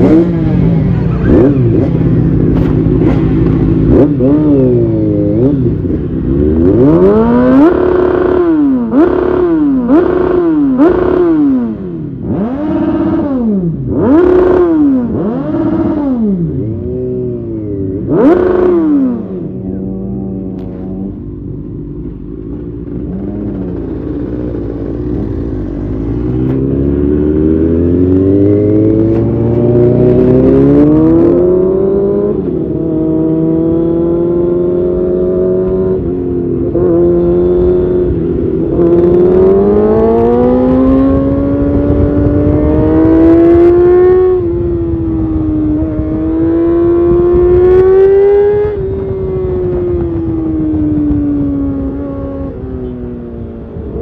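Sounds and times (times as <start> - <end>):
low rush of wind: 0.0 - 54.0
motorcycle engine accelerating hard: 0.0 - 54.0.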